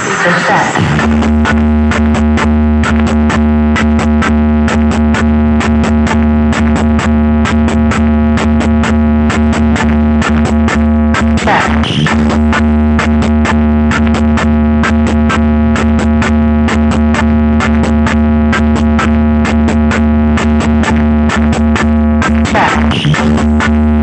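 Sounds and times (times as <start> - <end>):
heavy bass: 0.0 - 24.0
noisy sweep: 0.0 - 24.0
quick clicking beat: 0.8 - 24.0.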